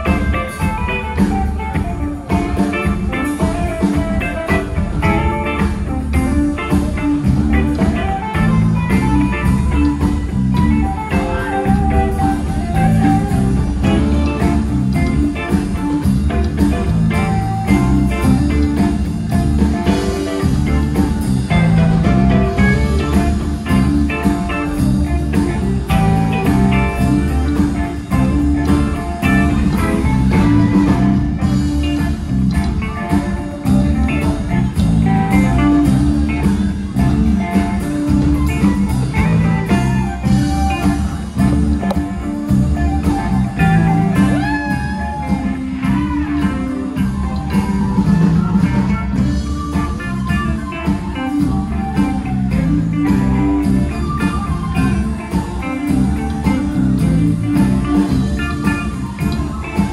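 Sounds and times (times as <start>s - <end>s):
blues band with guitar: 0.0s - 59.9s.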